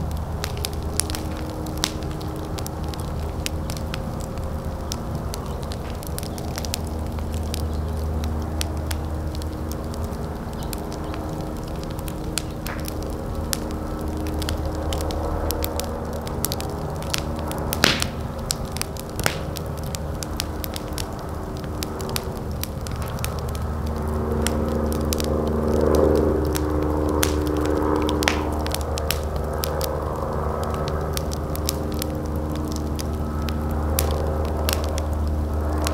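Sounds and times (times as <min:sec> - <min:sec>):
fire crackling: 0:00.0 - 0:35.9
sharp pops of fire: 0:00.0 - 0:35.9
steady low rumble: 0:00.0 - 0:35.9.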